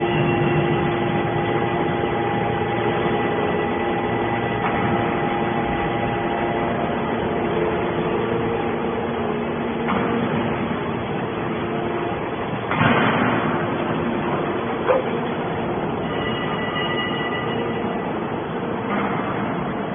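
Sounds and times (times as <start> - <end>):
hydraulic baler humming: 0.0 - 19.9
noisy mechanical background: 0.0 - 19.9.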